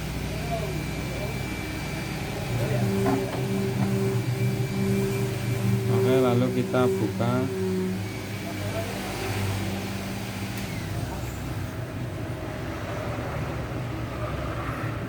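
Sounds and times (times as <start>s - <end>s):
hot-air blower whooshing hum: 0.0s - 15.0s.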